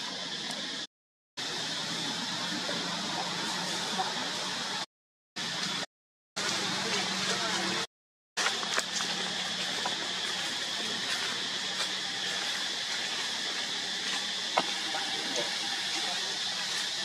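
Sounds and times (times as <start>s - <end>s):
hissing forest ambience: 0.0s - 4.8s, 6.4s - 7.8s, 8.4s - 17.0s.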